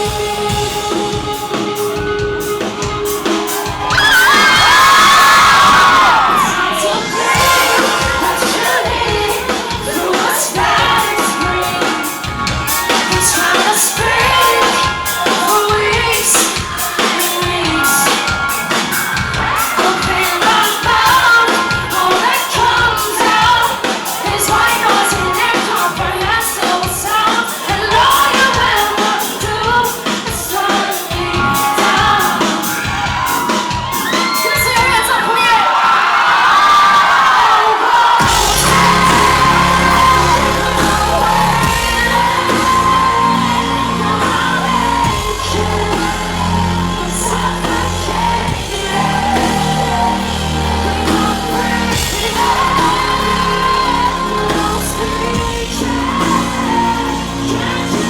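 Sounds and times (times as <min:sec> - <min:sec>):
drum beat: 0:00.0 - 0:35.2, 0:38.2 - 0:58.0
person singing lead vocal: 0:00.0 - 0:35.8, 0:36.9 - 0:58.0
crowd noise: 0:00.0 - 0:58.0
live rock band: 0:00.0 - 0:58.0.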